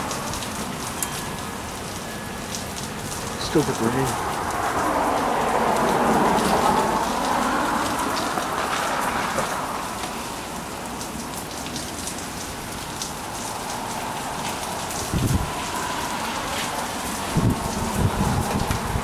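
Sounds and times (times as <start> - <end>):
raindrop hits ticking: 0.0 - 19.0
steady rainfall: 0.0 - 19.0.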